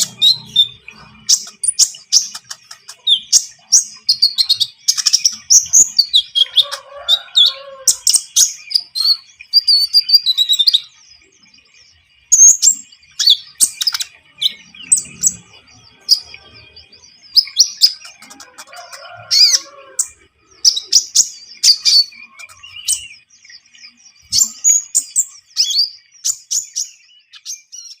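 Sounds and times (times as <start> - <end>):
songbird chirps and trills: 0.0 - 28.0.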